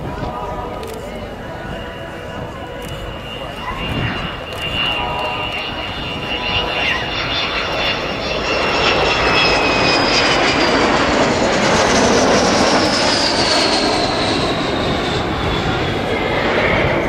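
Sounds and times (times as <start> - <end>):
jet bomber flypast: 0.0 - 17.0.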